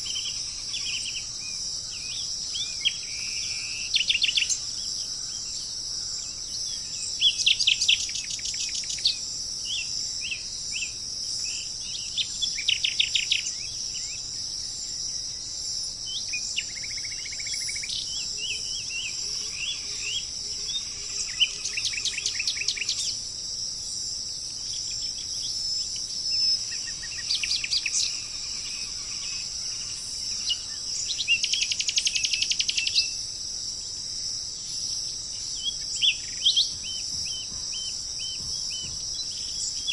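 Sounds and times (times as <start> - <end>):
insect chorus: 0.0 - 39.9
songbirds trilling and chirping: 0.0 - 39.9.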